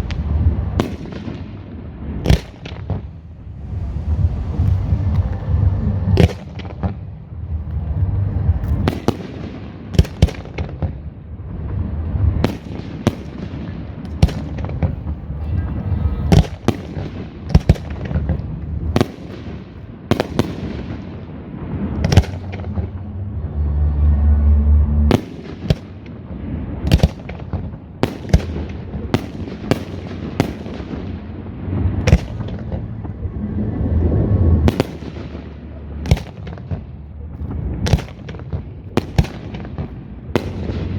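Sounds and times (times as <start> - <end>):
continuous low rumble: 0.0 - 40.9
fireworks bursting: 0.0 - 40.9.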